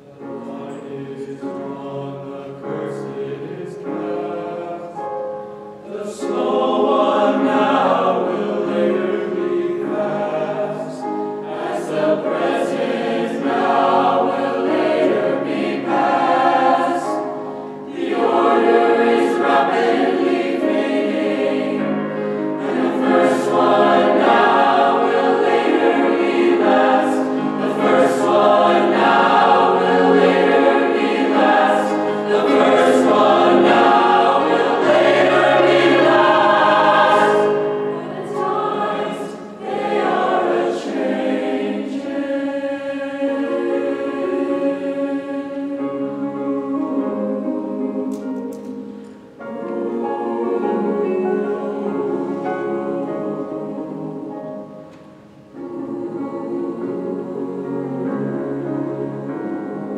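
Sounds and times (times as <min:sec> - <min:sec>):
choir singing in parts: 0:00.0 - 0:59.9.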